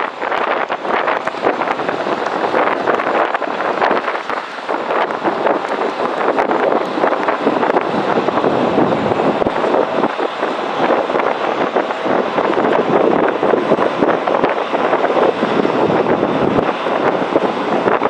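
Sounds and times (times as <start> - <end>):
jet airliner roaring overhead: 0.0 - 18.0.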